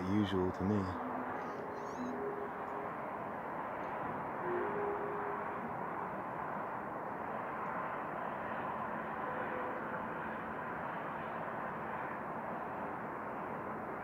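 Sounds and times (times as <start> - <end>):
steady rushing drone with faint tone: 0.0 - 14.0.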